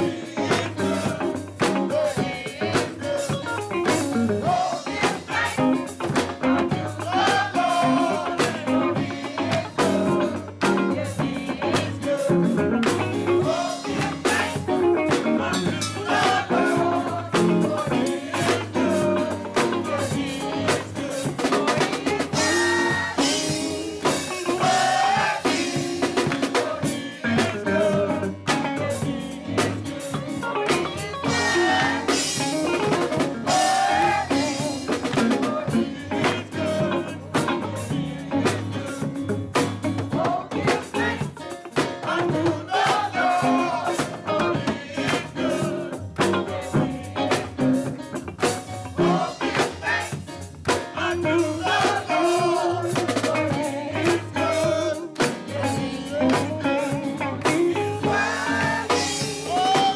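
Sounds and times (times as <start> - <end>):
choir singing worship song: 0.0 - 59.9
drum kit steady beat: 0.0 - 59.9
live band: 0.0 - 59.9.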